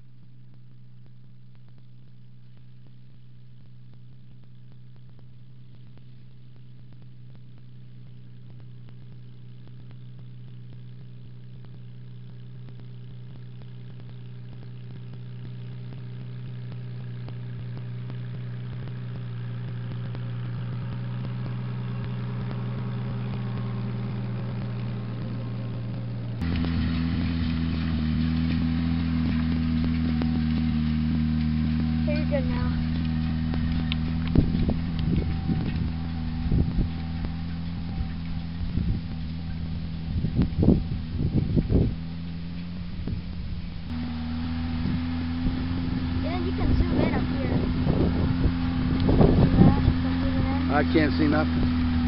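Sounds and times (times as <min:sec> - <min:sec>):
tractor engine running: 0:00.0 - 0:52.0
small tractor engine: 0:01.7 - 0:52.0.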